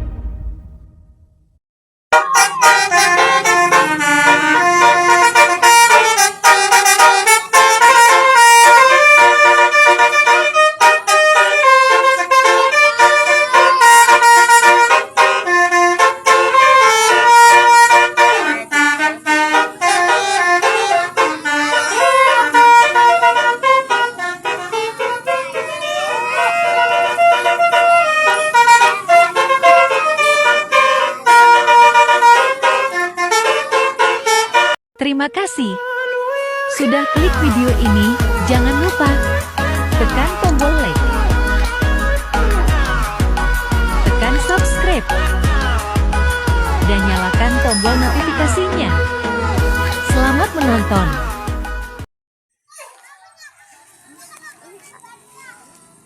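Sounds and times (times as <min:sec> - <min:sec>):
multi-tone bus horn melody: 0:02.1 - 0:52.1.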